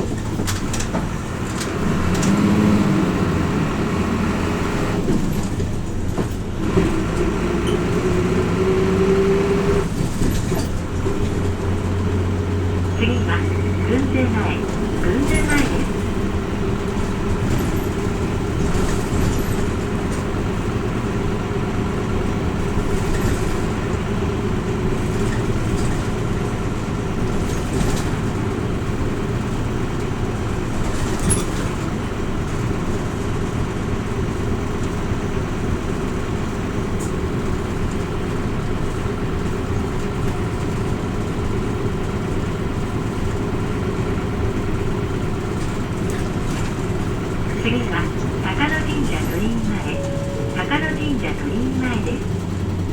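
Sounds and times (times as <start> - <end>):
bus diesel engine running: 0.0 - 52.9
road noise: 0.0 - 52.9.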